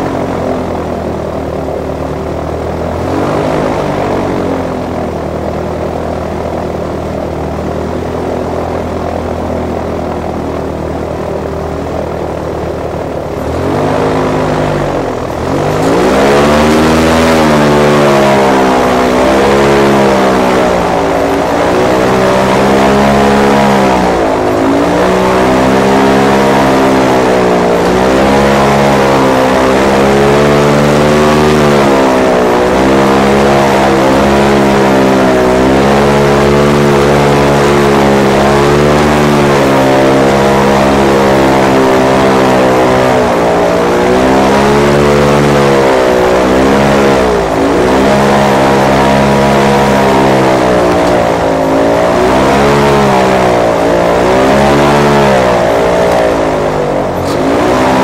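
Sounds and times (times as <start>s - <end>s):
airboat engine and propeller: 0.0s - 58.0s.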